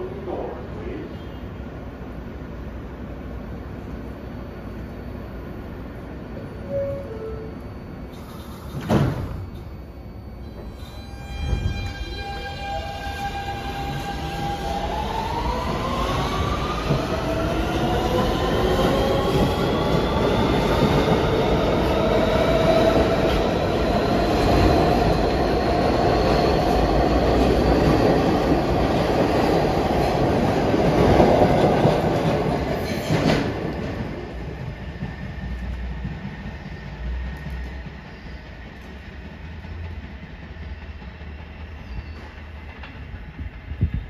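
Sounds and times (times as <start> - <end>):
subway train propulsion whine: 0.0 - 44.0
train cars rumbling on rails: 6.6 - 44.0.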